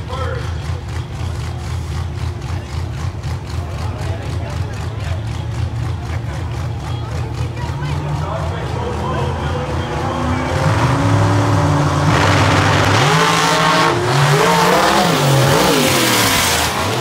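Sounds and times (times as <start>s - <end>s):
race car engines rumbling: 0.0s - 17.0s
race cars at full throttle: 0.0s - 17.0s.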